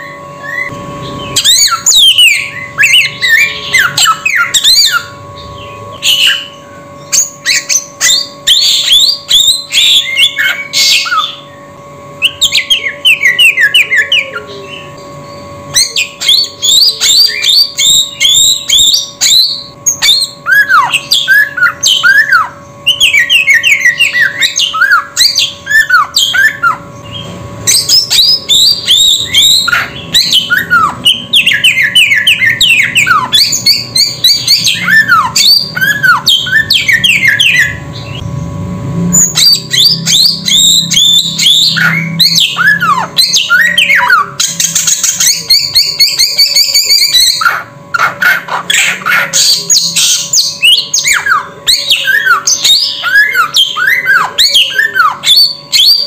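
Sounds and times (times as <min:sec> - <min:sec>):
songbird whistling: 0:00.0 - 0:38.2, 0:39.2 - 0:56.0.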